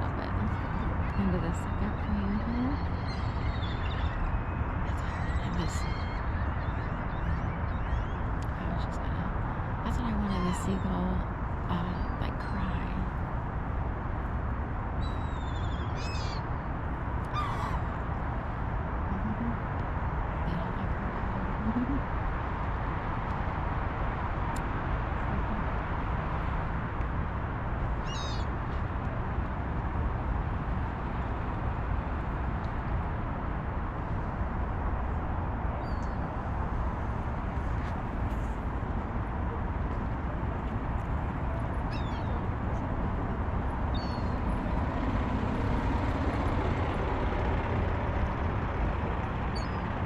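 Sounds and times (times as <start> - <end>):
low outdoor rumble: 0.0 - 50.0.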